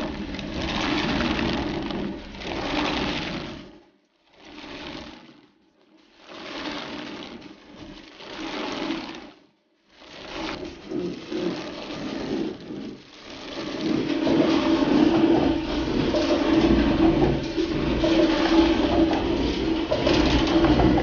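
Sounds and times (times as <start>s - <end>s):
millstones grinding: 0.0s - 3.7s, 6.2s - 9.4s, 10.0s - 21.0s
wooden gearing rattling rumble: 0.0s - 5.5s, 6.1s - 9.4s, 10.0s - 21.0s.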